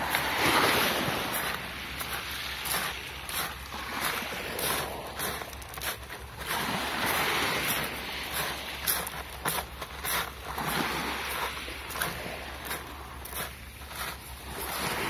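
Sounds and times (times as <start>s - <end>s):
small waves on pebble beach: 0.0s - 15.0s.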